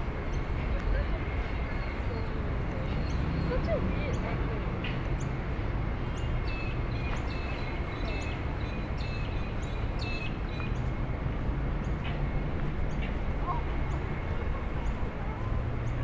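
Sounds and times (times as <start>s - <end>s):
city traffic rumble: 0.0s - 16.0s
birds chirping: 0.1s - 16.0s.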